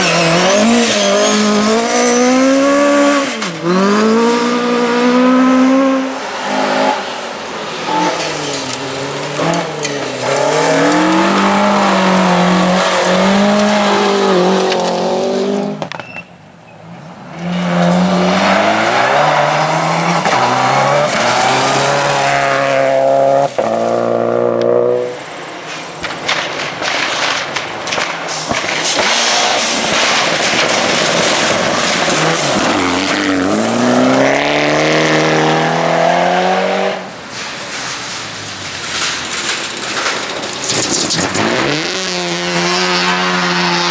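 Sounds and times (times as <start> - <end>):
rally car engines revving: 0.0 - 16.0, 16.7 - 26.8, 27.8 - 43.9.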